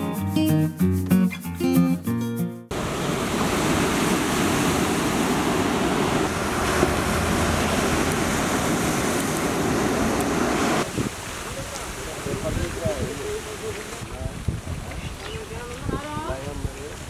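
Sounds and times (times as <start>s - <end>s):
surf breaking on rocks: 2.7s - 17.0s.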